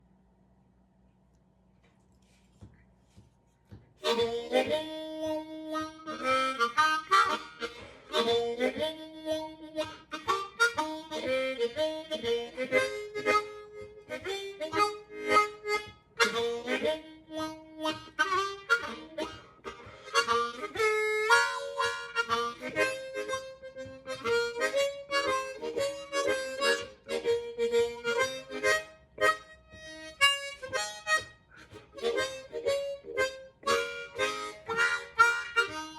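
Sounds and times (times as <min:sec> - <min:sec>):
solo harmonica melody: 0:04.0 - 0:35.9.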